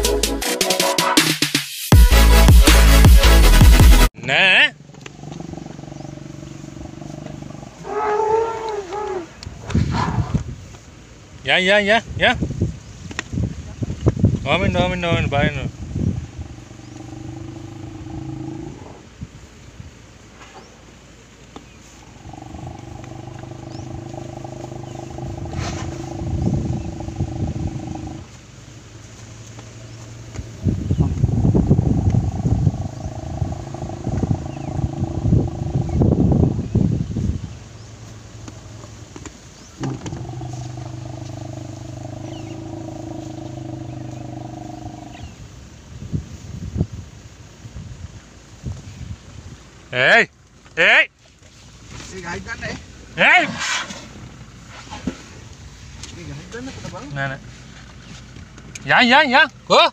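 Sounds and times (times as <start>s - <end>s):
elephant rumbling: 4.8s - 10.9s, 12.6s - 46.4s, 51.3s - 59.7s.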